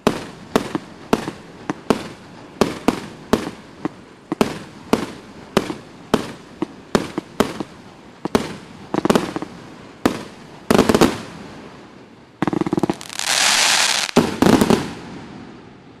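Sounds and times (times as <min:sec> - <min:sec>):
fireworks bangs: 0:00.0 - 0:16.0
fireworks crackling hiss: 0:00.0 - 0:16.0.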